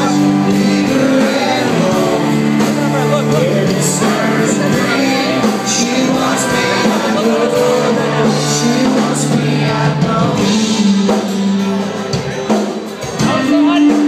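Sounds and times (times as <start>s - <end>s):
live country rock band: 0.0s - 14.0s
man singing: 0.0s - 14.0s.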